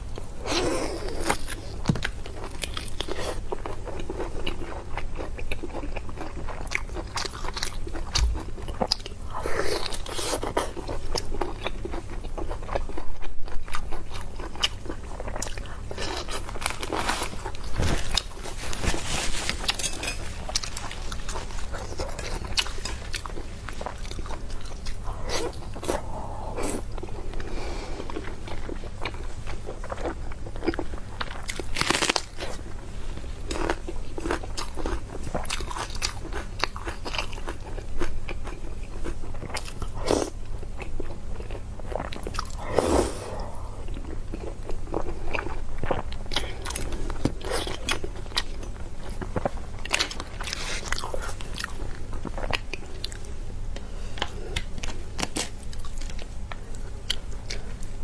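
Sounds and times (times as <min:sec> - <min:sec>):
person chewing crunchy meat: 0:00.1 - 0:58.0.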